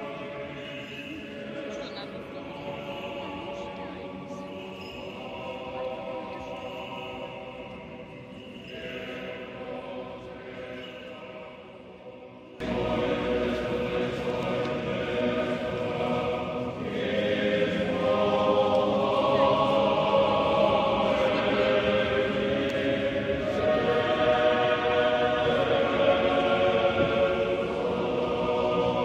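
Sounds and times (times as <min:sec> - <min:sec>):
church choir singing: 0:00.0 - 0:29.0.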